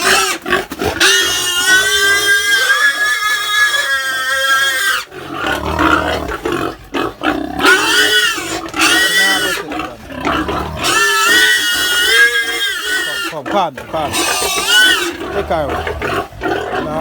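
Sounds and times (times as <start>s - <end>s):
pig grunting: 0.0s - 17.0s
pigs squealing: 0.0s - 17.0s.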